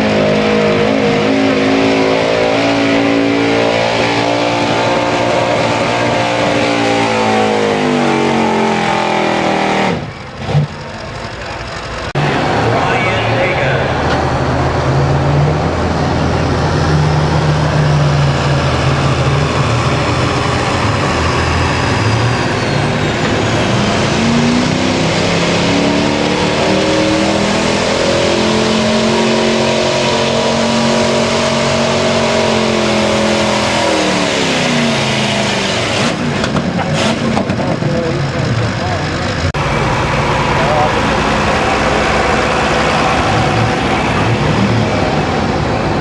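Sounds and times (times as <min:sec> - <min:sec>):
truck engine running hard: 0:00.0 - 0:46.0.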